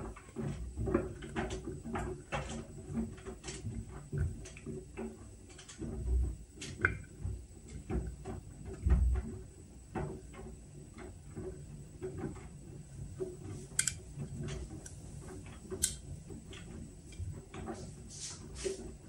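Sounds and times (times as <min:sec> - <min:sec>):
washing machine clicks and ticks: 0:00.0 - 0:19.0.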